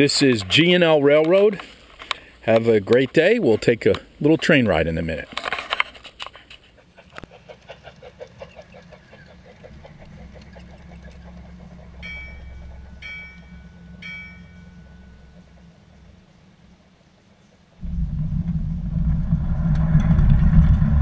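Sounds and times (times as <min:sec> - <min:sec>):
wheels clicking over rail joints: 0:00.0 - 0:17.8.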